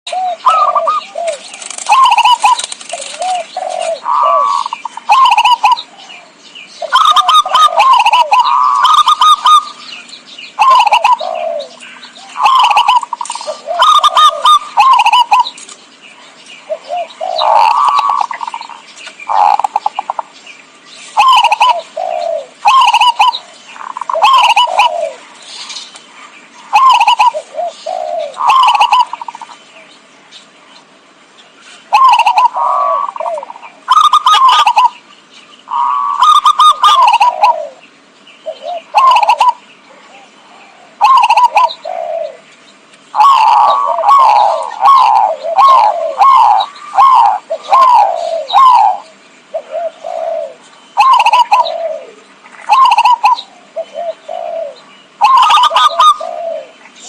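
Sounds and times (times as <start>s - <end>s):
doves cooing: 0.1s - 30.1s, 31.8s - 57.0s.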